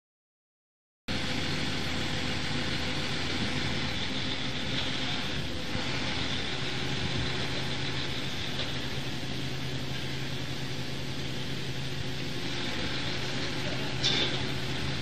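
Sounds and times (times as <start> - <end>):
electric transfer cart motor humming: 1.1 - 15.0.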